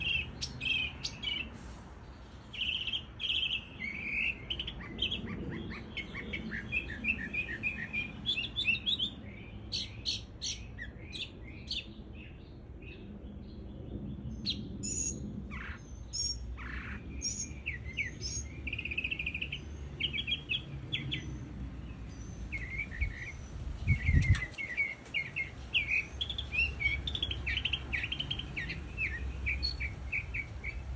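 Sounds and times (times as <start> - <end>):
mockingbird singing: 0.0 - 1.5, 2.5 - 11.9, 14.4 - 21.4, 22.1 - 30.9.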